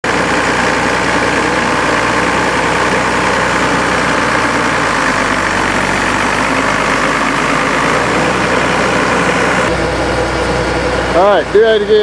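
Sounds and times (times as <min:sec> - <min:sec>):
baler engine running: 0:00.0 - 0:12.0.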